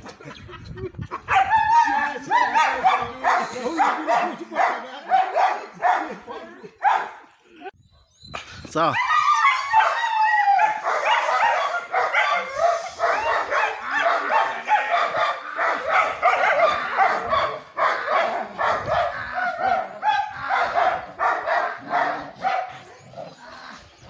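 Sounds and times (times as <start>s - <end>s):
dogs barking rapidly: 1.2s - 7.3s, 9.0s - 23.4s.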